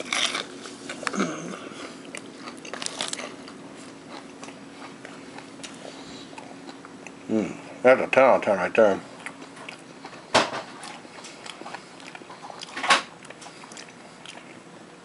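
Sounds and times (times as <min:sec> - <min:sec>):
chewing: 0:00.0 - 0:07.2, 0:09.1 - 0:14.7
crunching fried chicken: 0:00.0 - 0:07.2, 0:09.0 - 0:14.7.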